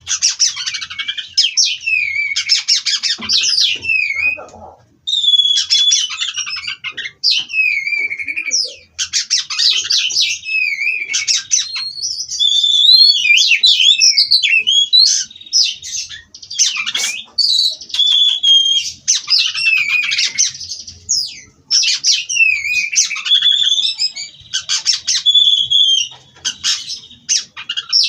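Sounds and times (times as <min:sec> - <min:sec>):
songbird singing trills and whistles: 0:00.0 - 0:28.0.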